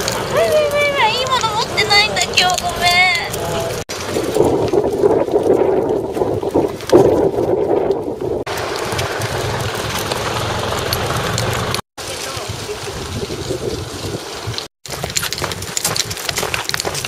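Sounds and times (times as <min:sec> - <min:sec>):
outdoor street noise: 0:00.0 - 0:17.0
wind rumbling on microphone: 0:00.0 - 0:17.0.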